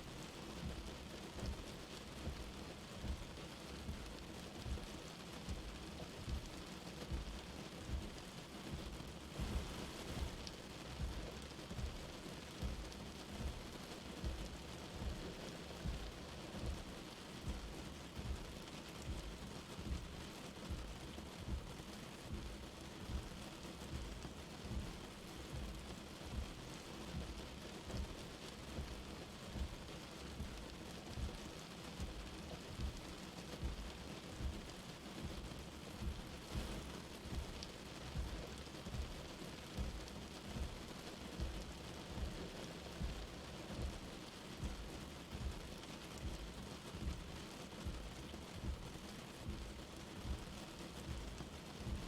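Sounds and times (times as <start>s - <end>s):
light rain pattering: 0.0s - 52.0s
soft low thuds: 0.6s - 6.5s, 7.1s - 52.0s.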